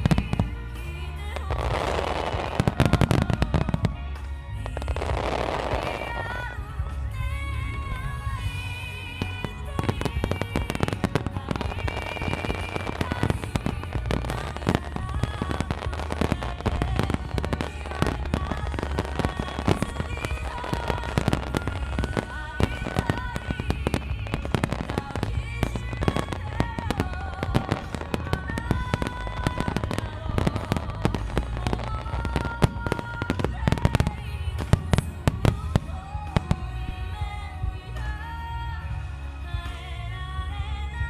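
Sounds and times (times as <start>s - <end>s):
fireworks bangs and crackles: 0.0s - 38.9s
music playing: 0.0s - 41.0s.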